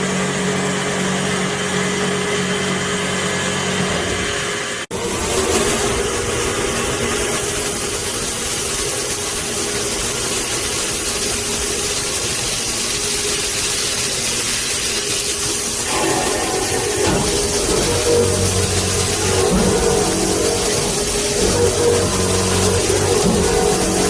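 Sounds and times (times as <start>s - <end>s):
drilling machine running: 0.0s - 24.0s.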